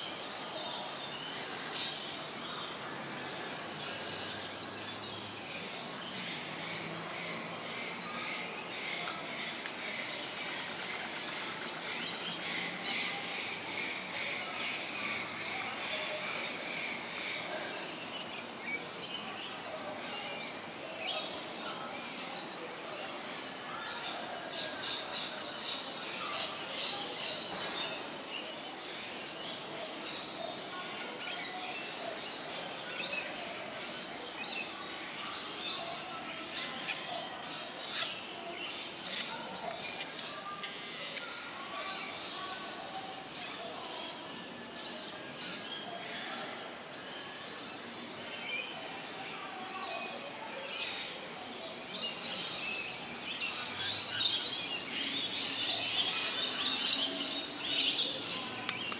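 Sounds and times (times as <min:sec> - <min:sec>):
birds chirping: 0:00.0 - 0:58.9
outdoor background hiss: 0:00.0 - 0:58.9.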